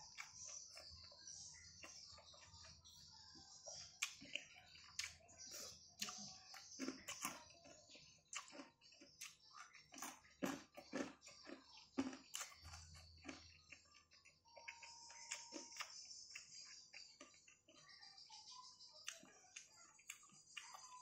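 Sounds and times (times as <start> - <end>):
person chewing crunchy food: 0.0 - 2.8, 3.7 - 17.9, 19.0 - 21.0.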